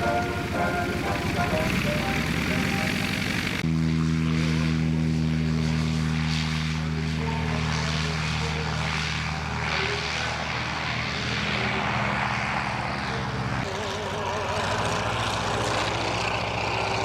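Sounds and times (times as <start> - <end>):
propeller engine running: 0.0 - 17.0.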